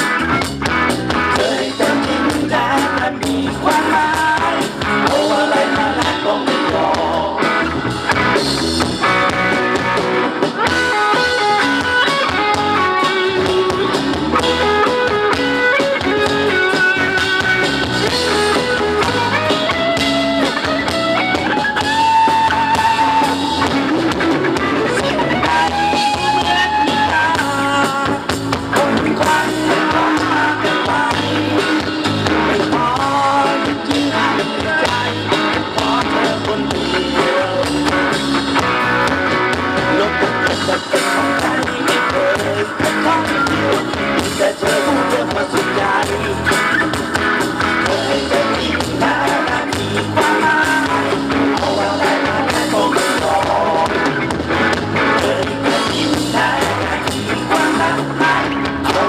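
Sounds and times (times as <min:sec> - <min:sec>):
live band playing: 0:00.0 - 0:59.0
steady drum beat: 0:00.0 - 0:59.0.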